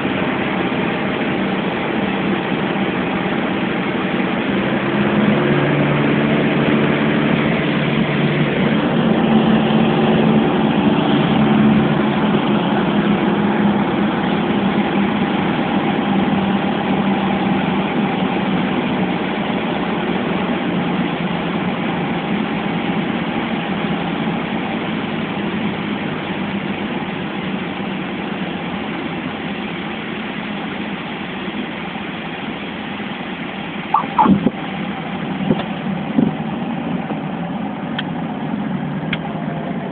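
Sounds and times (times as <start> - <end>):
airplane engine and propeller from cabin: 0.0 - 39.9.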